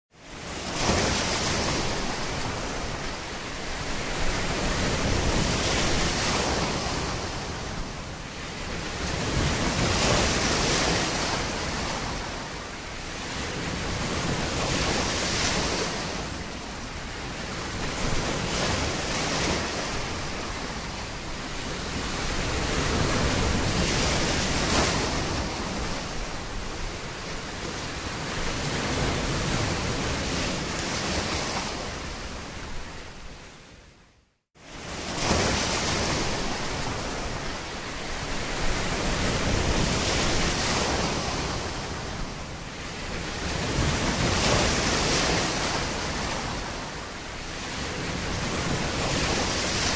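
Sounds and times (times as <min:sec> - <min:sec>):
waves breaking on a beach: 0:00.1 - 0:49.9.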